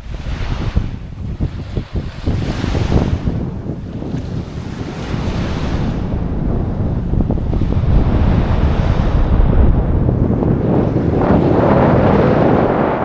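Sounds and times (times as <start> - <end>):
strong wind buffeting microphone: 0.0 - 13.0
waves washing: 0.0 - 13.0.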